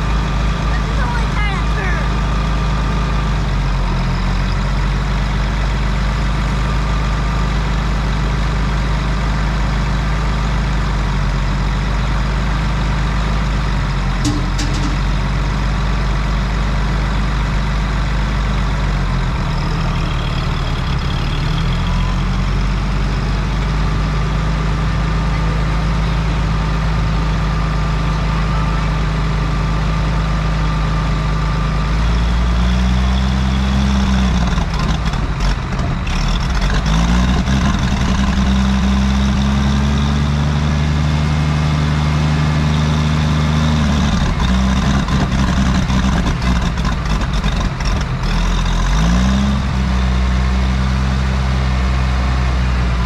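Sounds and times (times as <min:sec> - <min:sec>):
tractor engine idling: 0:00.0 - 0:49.0.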